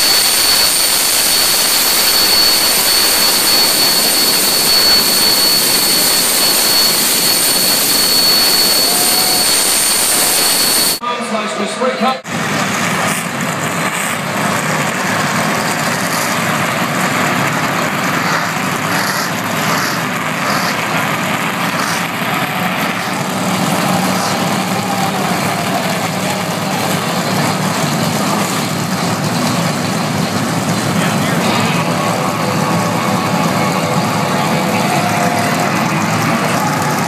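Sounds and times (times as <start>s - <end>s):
car engines idling: 0.0s - 11.0s, 12.3s - 37.0s.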